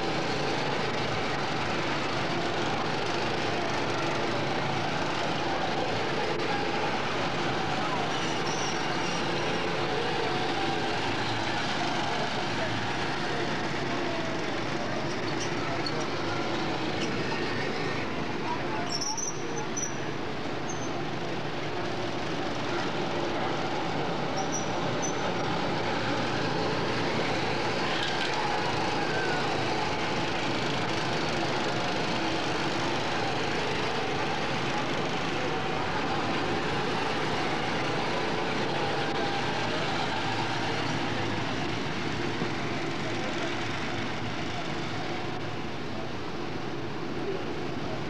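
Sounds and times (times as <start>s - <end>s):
go-kart engines running: 0.0s - 48.0s.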